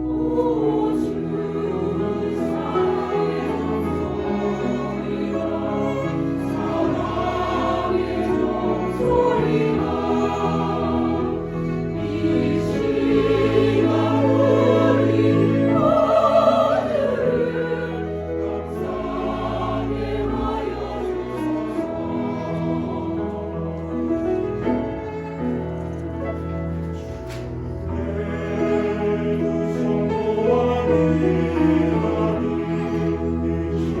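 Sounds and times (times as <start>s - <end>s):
church choir singing: 0.0s - 34.0s
instrumental accompaniment: 0.0s - 34.0s.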